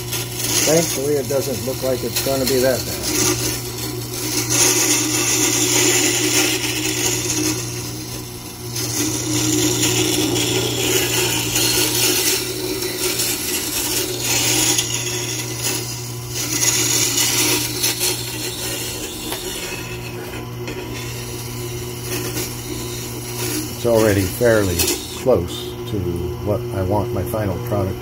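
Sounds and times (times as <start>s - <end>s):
steel grinding hiss: 0.0s - 25.6s
grinder motor hum: 0.0s - 28.0s.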